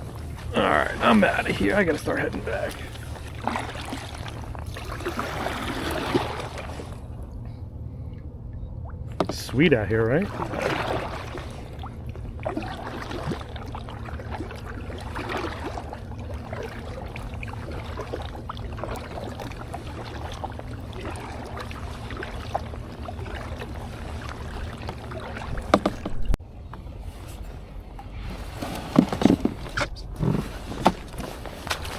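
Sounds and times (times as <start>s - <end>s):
kayak paddle strokes in water: 0.0s - 7.3s, 9.1s - 26.4s, 27.0s - 31.9s
steady low hum: 0.0s - 31.9s.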